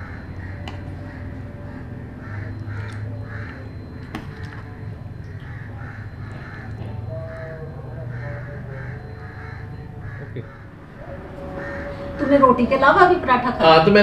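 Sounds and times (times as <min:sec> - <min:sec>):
crows cawing: 0:00.0 - 0:13.2.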